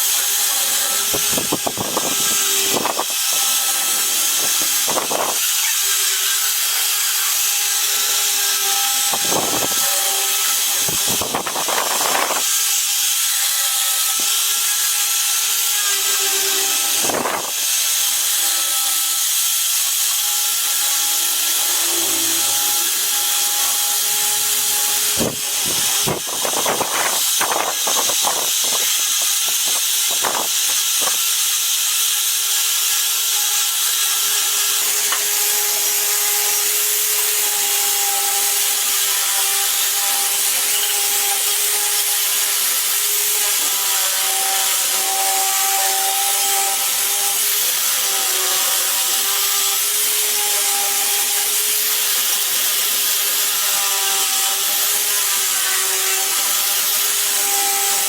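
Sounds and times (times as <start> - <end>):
power tool whining on wood: 0.0 - 58.0.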